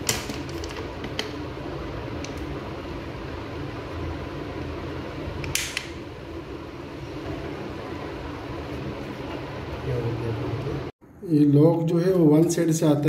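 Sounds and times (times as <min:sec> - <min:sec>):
low fan-like hum: 0:00.0 - 0:13.0.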